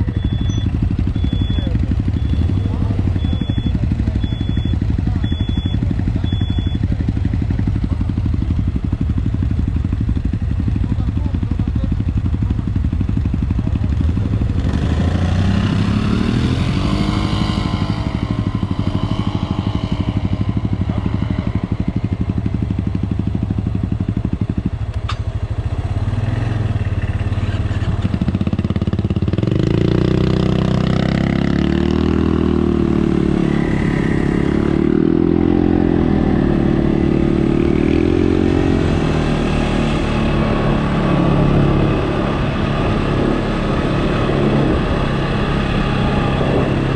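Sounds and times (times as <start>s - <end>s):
off-road vehicle engine revving: 0.0s - 46.9s.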